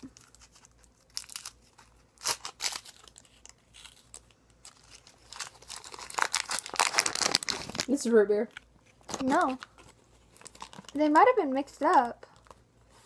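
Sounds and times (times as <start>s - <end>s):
lollipop wrapper crinkling: 0.0s - 11.1s.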